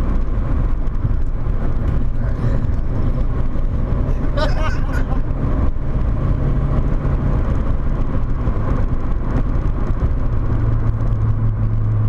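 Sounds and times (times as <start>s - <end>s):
car engine pulling hard: 0.0s - 12.0s
road and wind noise: 0.0s - 12.0s.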